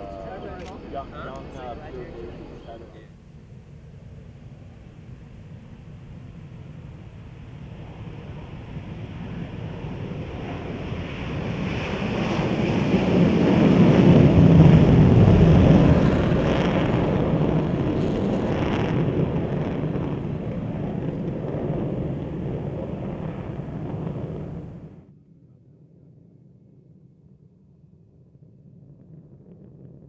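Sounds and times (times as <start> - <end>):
jet engines roaring on take-off: 0.0 - 25.0.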